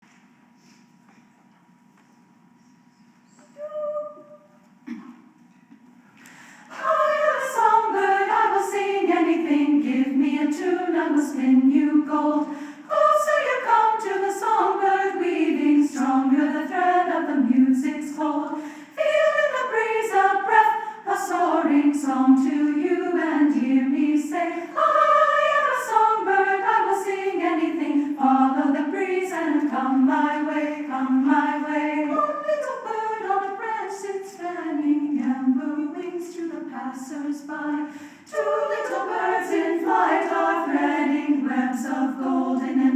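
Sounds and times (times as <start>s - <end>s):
unaccompanied choir singing: 6.7s - 42.9s.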